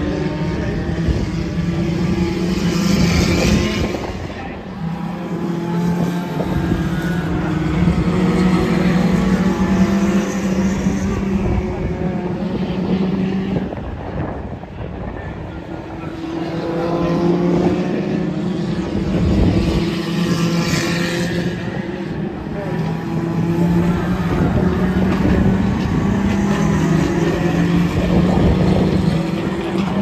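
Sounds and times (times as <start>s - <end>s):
race car engines drone: 0.0s - 30.0s.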